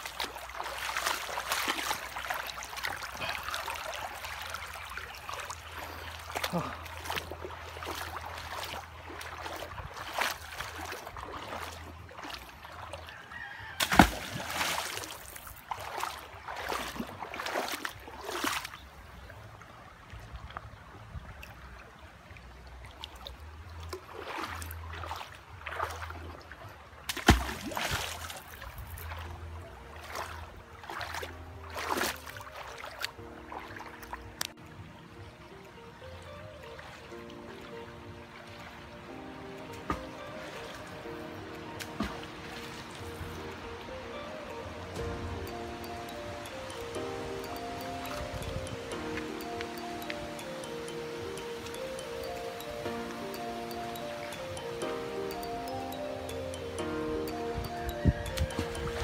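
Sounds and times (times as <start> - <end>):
river water splashing: 0.0 - 59.0.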